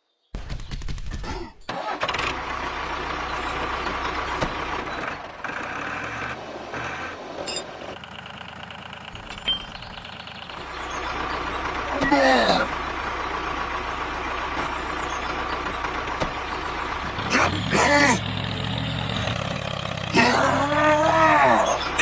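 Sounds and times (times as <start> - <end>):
tractor engine running: 1.7 - 22.0.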